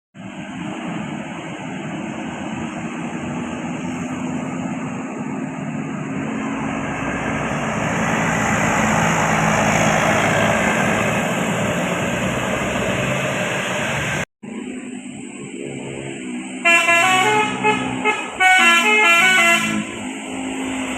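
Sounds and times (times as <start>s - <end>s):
bus driving past: 0.2s - 20.9s.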